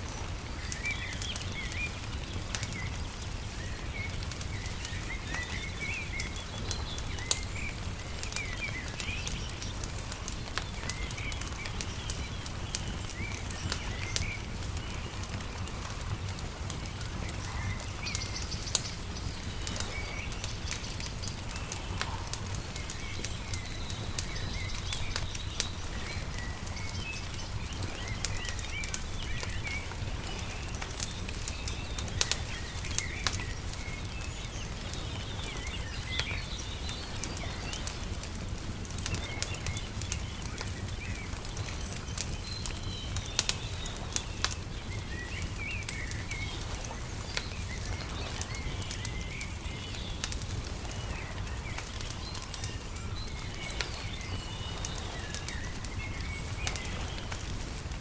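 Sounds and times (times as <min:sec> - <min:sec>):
small birds chirping: 0:00.0 - 0:58.0
wood fire crackling: 0:00.0 - 0:58.0.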